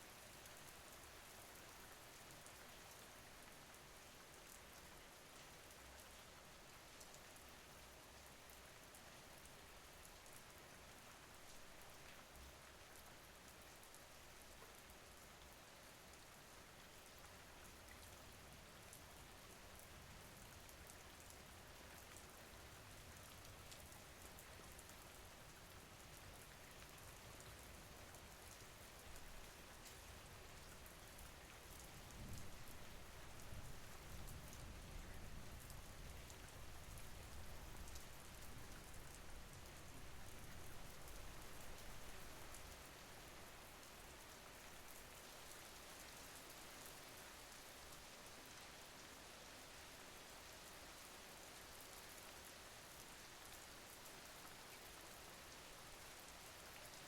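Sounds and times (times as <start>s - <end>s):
rain falling: 0.1s - 57.0s.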